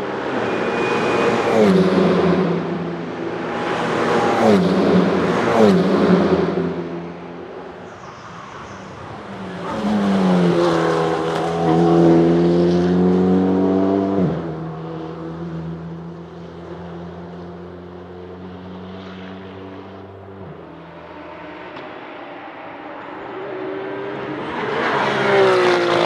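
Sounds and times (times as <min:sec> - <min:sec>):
car accelerating hard: 0:00.0 - 0:07.7, 0:09.2 - 0:26.0
race car engines at speed: 0:00.0 - 0:26.0.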